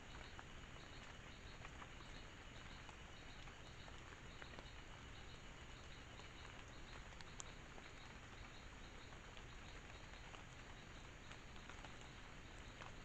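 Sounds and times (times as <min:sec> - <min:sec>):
faint ticks: 0:00.0 - 0:13.0
insect chirping: 0:00.0 - 0:13.0.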